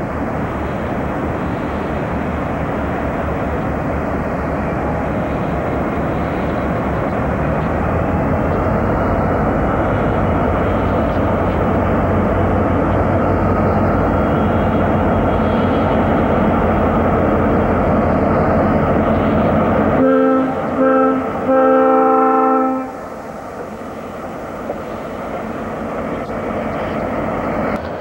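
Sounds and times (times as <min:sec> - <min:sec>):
diesel locomotive engines droning: 0:00.0 - 0:28.0.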